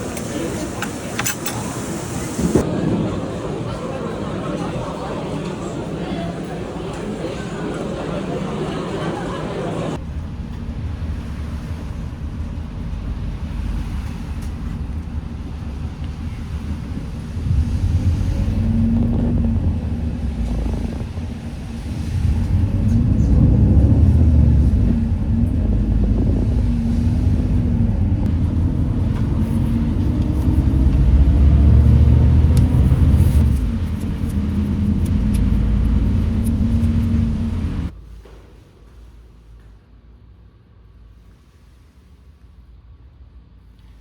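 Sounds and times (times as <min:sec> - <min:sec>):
vehicle engine rumble: 0:00.0 - 0:38.0.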